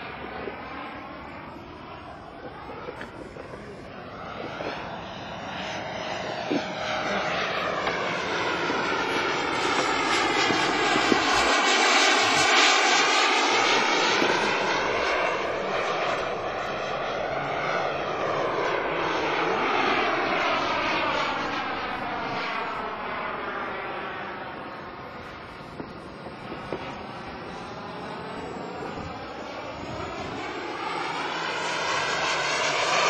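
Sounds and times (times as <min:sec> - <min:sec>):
model jet engine flying past: 0:00.0 - 0:33.0.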